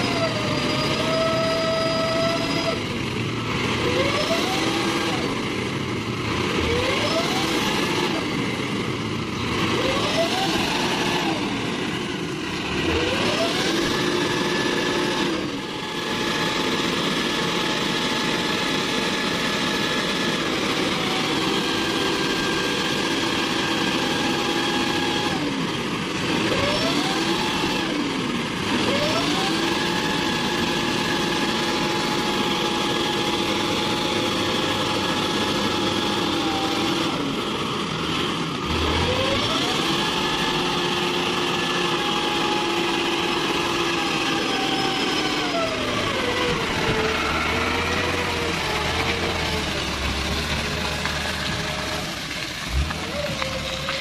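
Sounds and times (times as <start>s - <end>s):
dump truck diesel engine straining: 0.0s - 54.0s.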